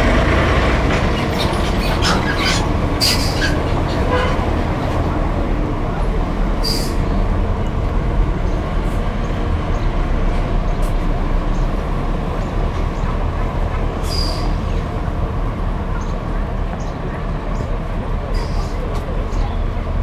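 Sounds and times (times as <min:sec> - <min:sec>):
passing cars rumbling: 0:00.0 - 0:20.0.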